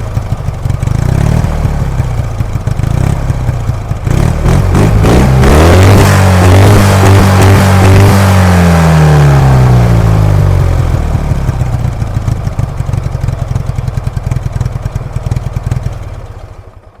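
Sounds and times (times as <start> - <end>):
two-stroke motorcycle engine idling: 0.0 - 17.0.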